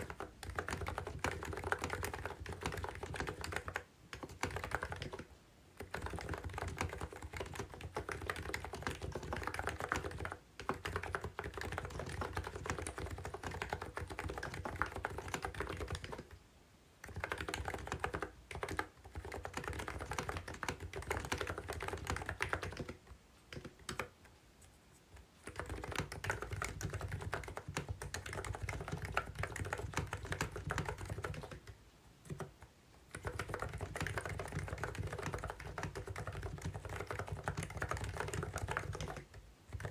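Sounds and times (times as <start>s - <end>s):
typing on keyboard: 0.0s - 16.4s, 17.0s - 24.2s, 25.4s - 39.9s.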